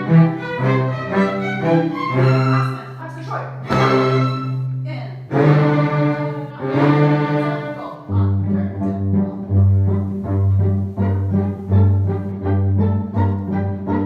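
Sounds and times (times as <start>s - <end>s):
orchestral bowed strings: 0.0s - 14.0s.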